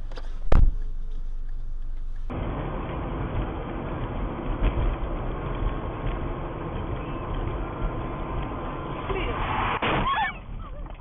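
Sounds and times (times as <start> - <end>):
vehicle running rumble: 0.0 - 11.0.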